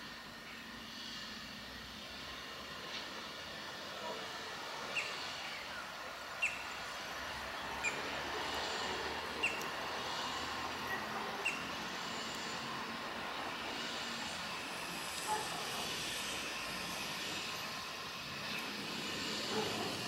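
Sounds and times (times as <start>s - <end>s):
electric train rumble and hiss: 0.0s - 20.0s.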